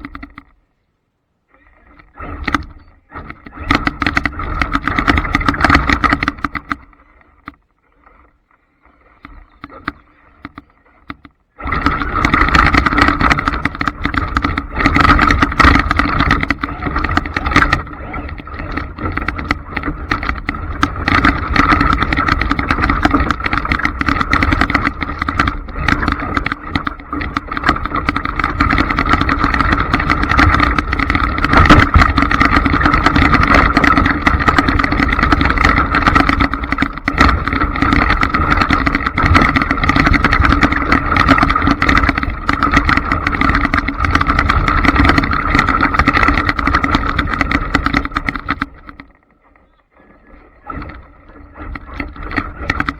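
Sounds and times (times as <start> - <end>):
chassis rattling and knocks: 2.0 - 7.6, 9.6 - 49.1, 50.7 - 52.9.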